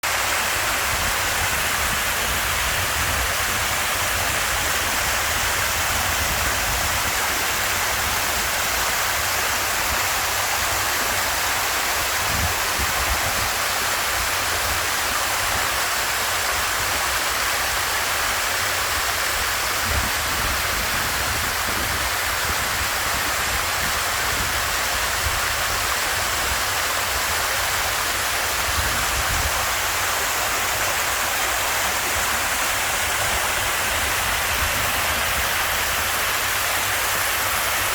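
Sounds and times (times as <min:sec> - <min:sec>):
water rushing down cascade: 0:00.0 - 0:37.9.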